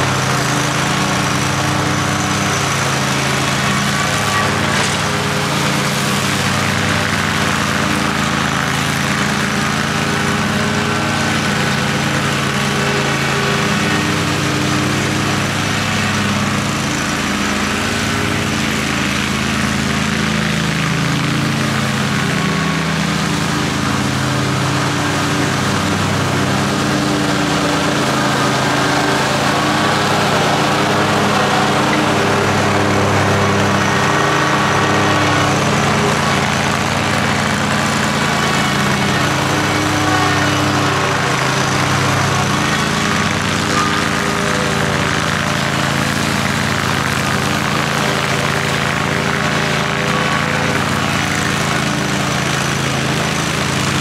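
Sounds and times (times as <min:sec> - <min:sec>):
lawn mower engine hum: 0:00.0 - 0:54.0
mower blades rushing: 0:00.0 - 0:54.0.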